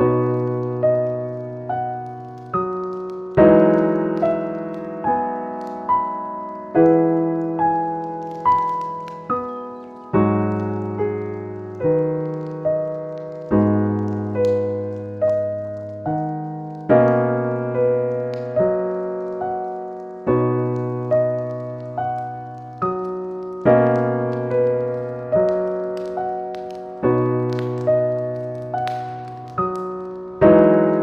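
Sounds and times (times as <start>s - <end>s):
faint fire crackles: 0.0s - 31.0s
gentle piano chords: 0.0s - 31.0s.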